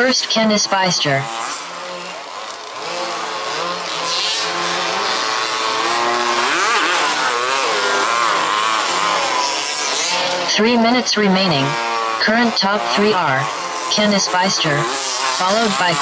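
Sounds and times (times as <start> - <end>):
small two-stroke engines revving: 0.0 - 16.0.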